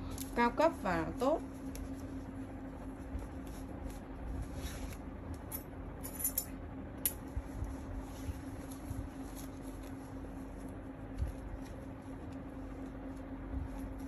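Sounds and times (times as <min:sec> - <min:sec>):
steady low hum: 0:00.0 - 0:14.0
fabric rustling: 0:00.2 - 0:05.4, 0:07.3 - 0:14.0.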